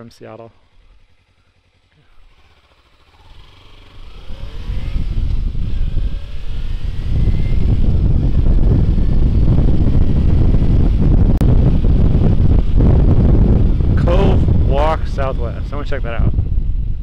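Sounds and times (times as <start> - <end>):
motorcycle engine accelerating: 0.0 - 17.0
wind on microphone: 3.2 - 17.0.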